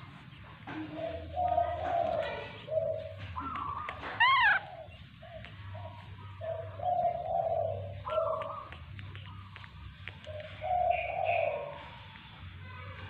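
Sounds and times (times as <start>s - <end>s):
low cooing calls: 0.0s - 12.6s.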